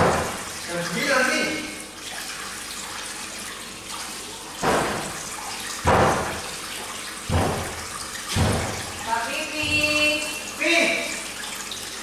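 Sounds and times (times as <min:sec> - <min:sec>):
tap water running into basin: 0:00.0 - 0:12.0
water splashing: 0:00.0 - 0:12.0.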